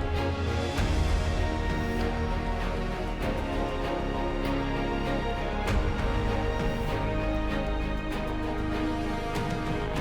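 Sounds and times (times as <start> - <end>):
instrumental music with light beat: 0.0 - 10.0.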